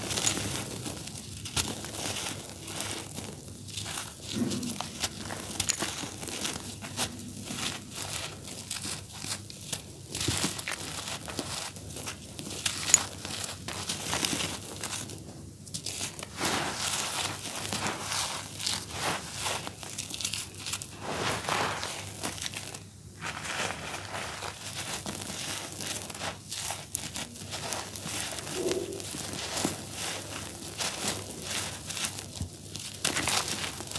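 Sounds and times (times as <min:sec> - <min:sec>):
charcoal crumbling in hands: 0:00.0 - 0:33.9.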